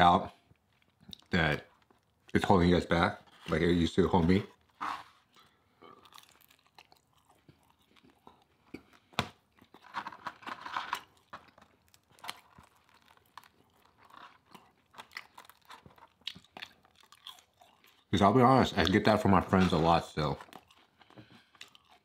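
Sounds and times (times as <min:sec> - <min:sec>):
person chewing food: 0:00.3 - 0:22.0.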